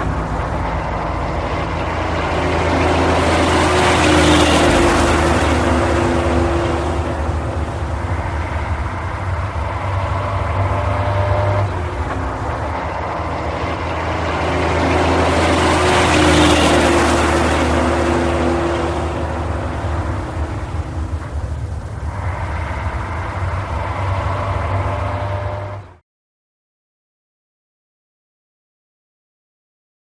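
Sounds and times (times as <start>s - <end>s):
racing truck engine running: 0.0s - 26.0s.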